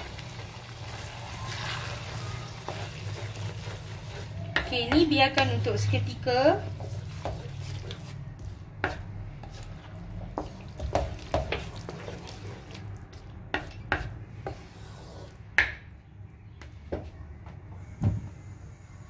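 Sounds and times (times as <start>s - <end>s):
spatula scraping a wok: 0.0s - 15.6s.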